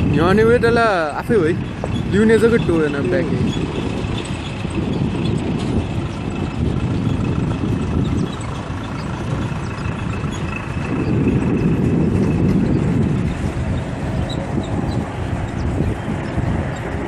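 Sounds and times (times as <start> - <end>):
distant engines rumbling: 0.0 - 17.0.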